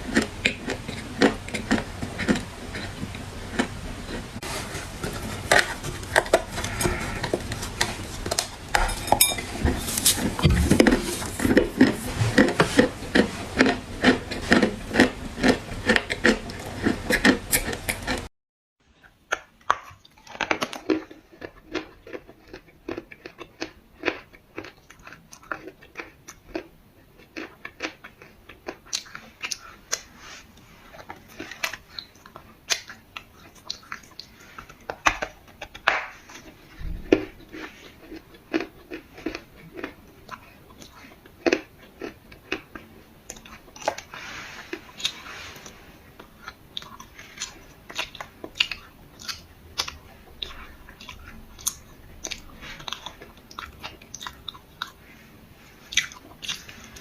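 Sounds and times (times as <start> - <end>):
chewing dry clay crunches: 0.0 - 18.3, 19.3 - 57.0.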